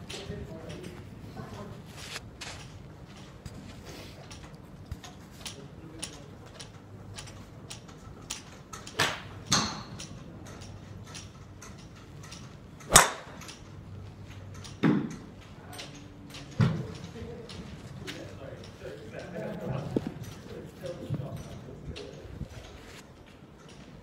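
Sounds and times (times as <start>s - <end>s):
golf clubs striking balls: 0.0s - 23.9s.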